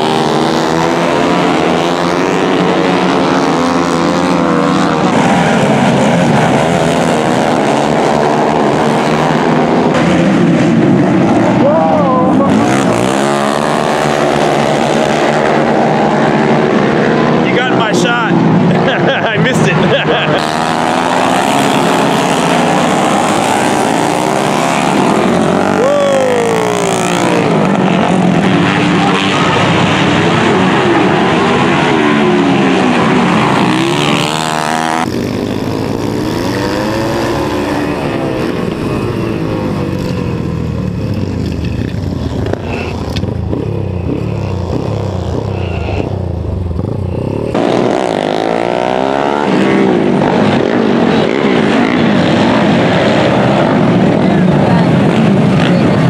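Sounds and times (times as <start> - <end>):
motorcycle engine up close: 0.0 - 56.0
motorcycle engines revving: 0.0 - 56.0.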